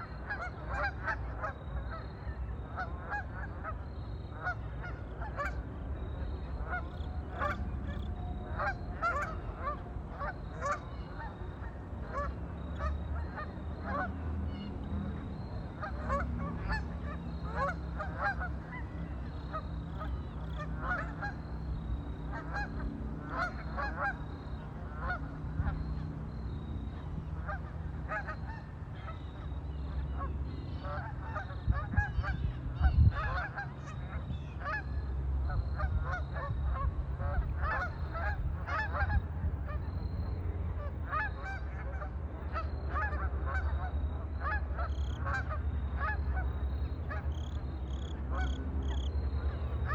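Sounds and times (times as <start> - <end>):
waterfowl honking: 0.0 - 49.9.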